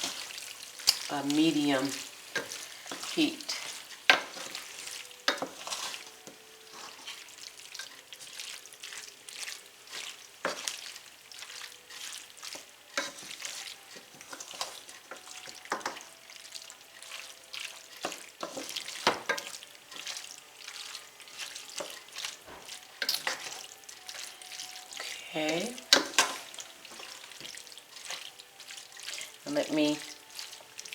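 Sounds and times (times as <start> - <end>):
food sizzling in a pan: 0.0 - 30.9
spoon scraping a pan: 0.0 - 30.9.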